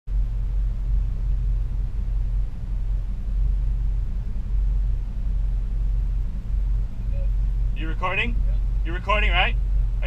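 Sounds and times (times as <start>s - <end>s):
car engine idling: 0.1s - 10.0s.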